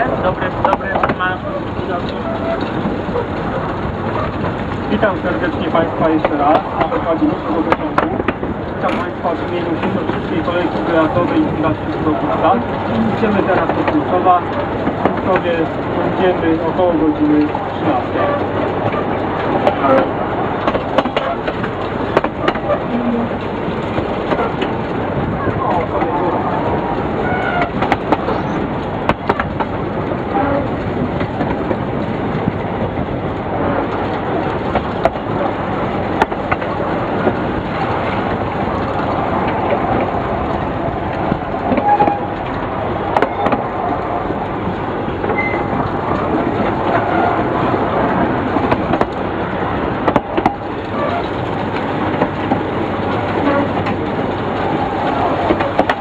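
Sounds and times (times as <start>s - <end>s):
train coach rumbling and rattling: 0.0s - 56.0s
wheels clacking over rail joints: 0.0s - 56.0s.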